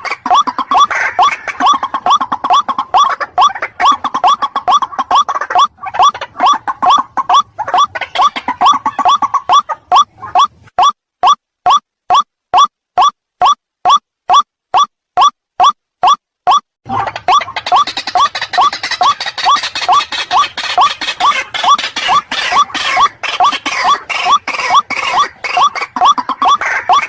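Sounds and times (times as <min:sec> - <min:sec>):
waterhen calling: 0:00.0 - 0:14.4, 0:16.0 - 0:27.0.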